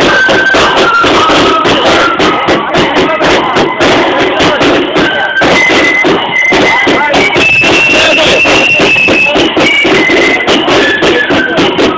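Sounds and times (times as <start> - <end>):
flute melody: 0.0 - 11.9
steady drum beat: 0.0 - 11.9.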